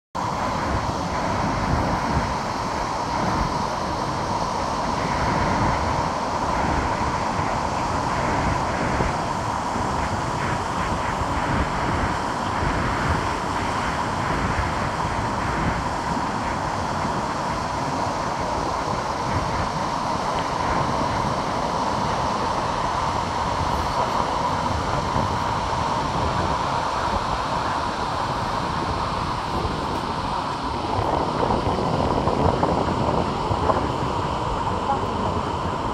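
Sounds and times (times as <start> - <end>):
waterfall roaring: 0.2 - 35.9
wind buffeting microphone: 0.2 - 35.9.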